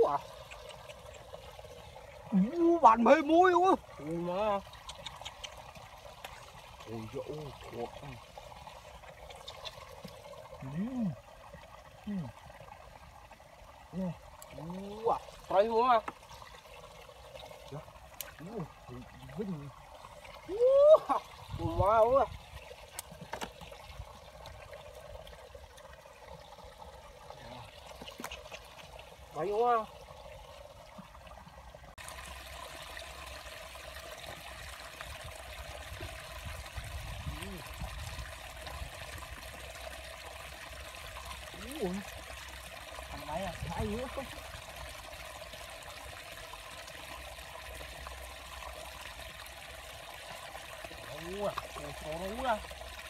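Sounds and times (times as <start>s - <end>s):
trickle of running water: 0.0s - 53.0s.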